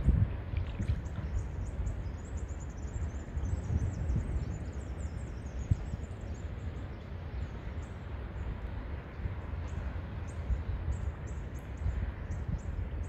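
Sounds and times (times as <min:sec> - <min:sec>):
steady outdoor hiss: 0:00.0 - 0:13.0
wind buffeting microphone: 0:00.0 - 0:13.0
birds chirping: 0:00.8 - 0:13.0.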